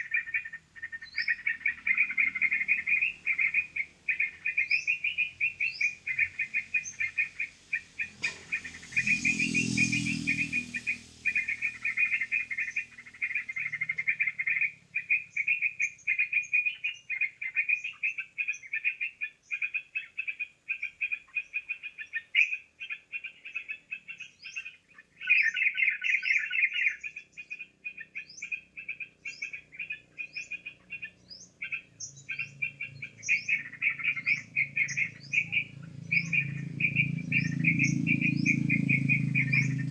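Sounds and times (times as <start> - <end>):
bubbly bird chattering calls: 0.0 - 39.9.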